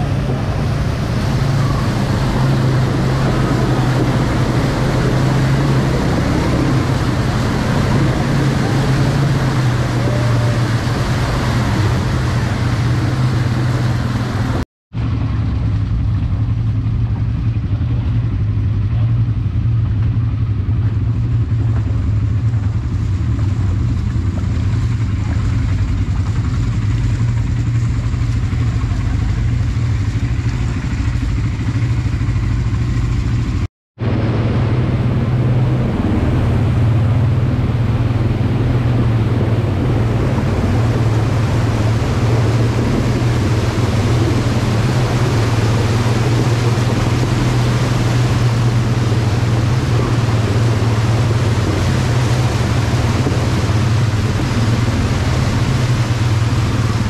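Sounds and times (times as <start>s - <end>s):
water splashing: 0.0s - 14.6s, 20.6s - 57.0s
quad bike engines running: 0.0s - 57.0s.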